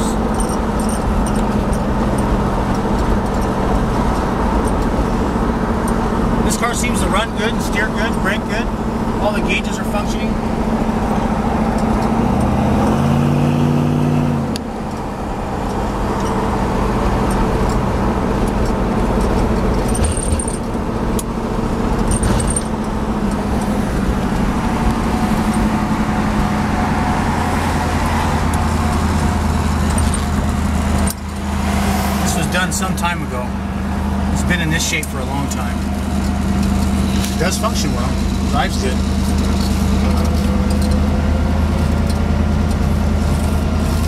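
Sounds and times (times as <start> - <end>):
car engine from inside: 0.0 - 44.0
road noise: 0.0 - 44.0.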